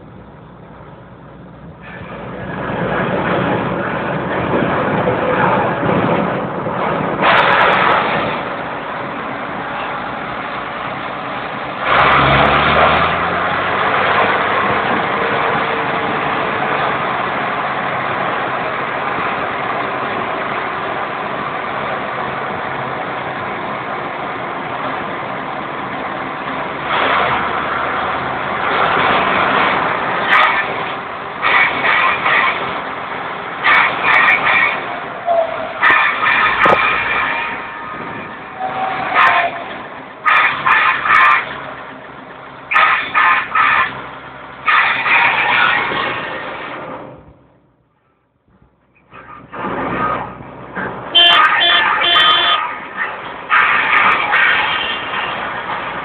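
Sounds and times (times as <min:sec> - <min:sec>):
tractor engine revving: 0:00.0 - 0:47.8, 0:48.5 - 0:56.0
tractor diesel engines driving by: 0:00.0 - 0:56.0.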